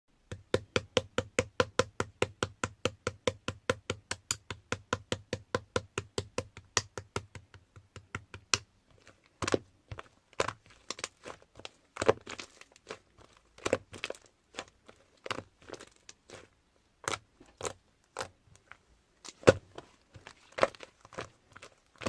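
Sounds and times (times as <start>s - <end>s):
slime squishing: 3.4s - 22.0s.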